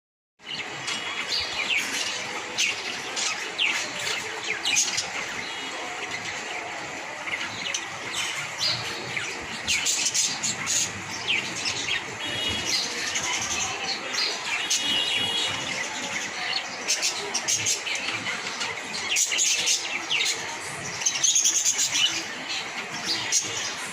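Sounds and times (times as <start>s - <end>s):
budgerigars chirping: 0.5s - 23.9s.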